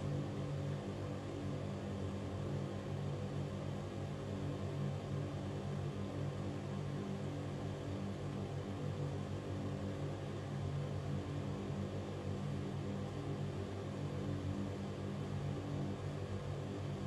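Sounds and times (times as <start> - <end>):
ventilation fan hum: 0.0 - 17.0.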